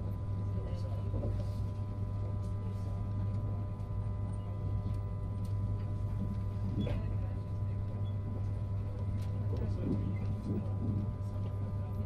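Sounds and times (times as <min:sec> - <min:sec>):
train carriage hum: 0:00.0 - 0:12.0.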